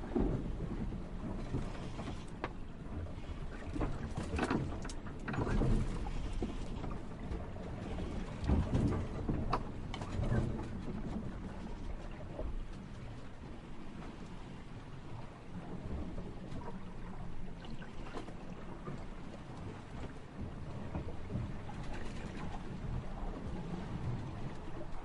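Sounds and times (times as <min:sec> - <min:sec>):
knocks and creaks: 0:00.0 - 0:14.4, 0:15.8 - 0:25.0
water sloshing against boats: 0:00.0 - 0:25.0.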